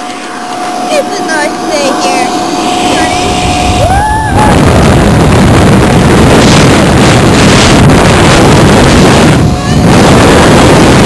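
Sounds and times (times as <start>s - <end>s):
steady high tone: 0.0s - 11.0s
wind blasting the microphone: 0.0s - 11.0s.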